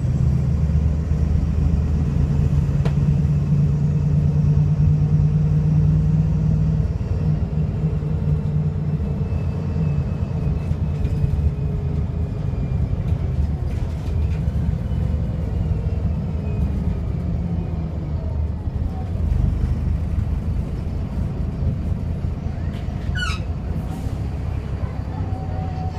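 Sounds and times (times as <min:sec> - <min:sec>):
bus diesel engine drone: 0:00.0 - 0:25.9.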